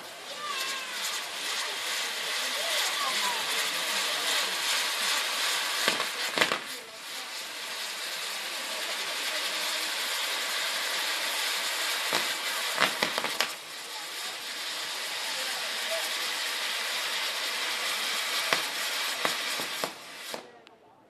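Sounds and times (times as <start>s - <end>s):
firework wheels hissing: 0.0s - 20.7s
firework cracks: 0.0s - 20.8s.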